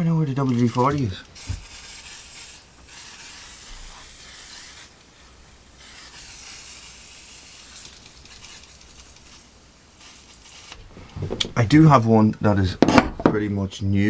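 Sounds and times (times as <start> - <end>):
aerosol can spraying: 0.0 - 11.7.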